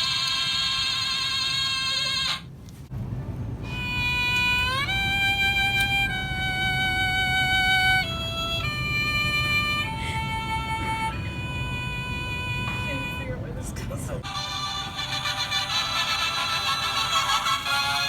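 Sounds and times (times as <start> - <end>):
steady low hum: 0.0 - 18.0
long held musical notes: 3.1 - 18.0.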